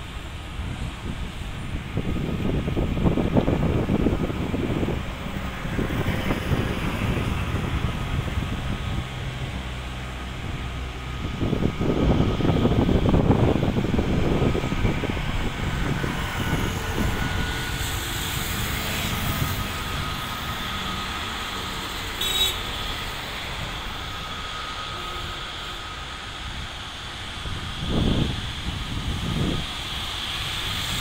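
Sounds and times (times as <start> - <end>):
jet engines rumbling and whining: 0.0 - 31.0.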